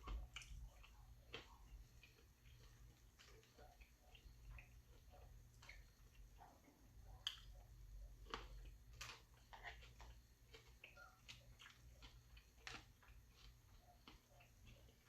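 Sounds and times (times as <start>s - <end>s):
person chewing with wet smacks: 0.0s - 15.0s.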